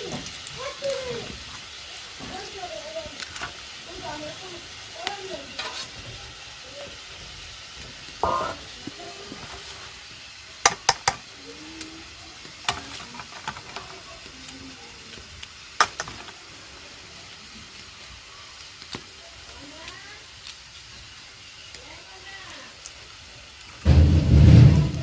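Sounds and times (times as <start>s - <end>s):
potatoes sizzling in oil: 0.0s - 25.0s.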